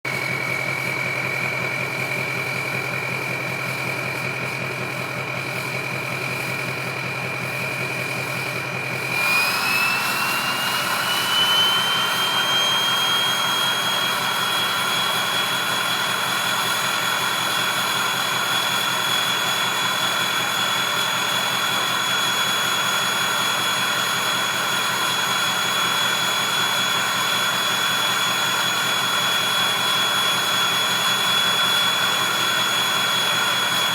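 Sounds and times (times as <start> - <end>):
diesel engine idling: 0.1 - 9.1, 11.8 - 33.9
turbocharger whistling: 6.3 - 33.9.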